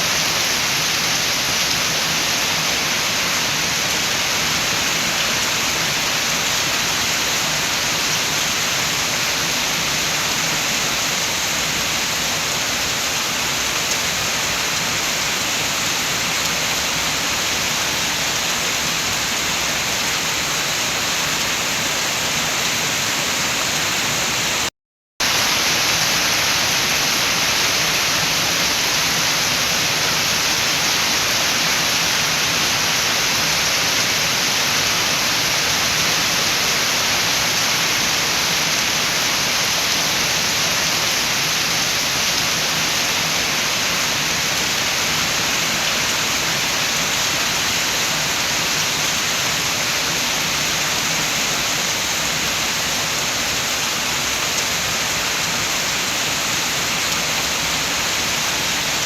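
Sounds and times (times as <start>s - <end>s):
steady rain: 0.0s - 59.0s
wind: 0.0s - 59.0s.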